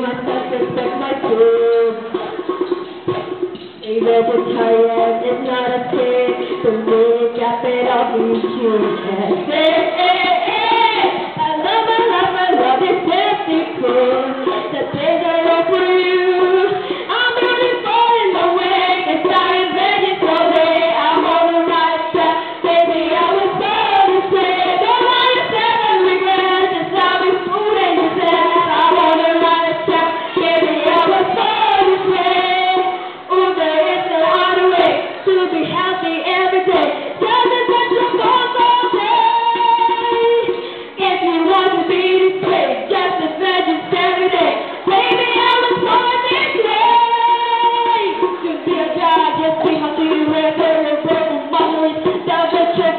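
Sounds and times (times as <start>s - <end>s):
girls singing pop song: 0.0s - 52.9s
steady tapping beat: 0.0s - 52.9s.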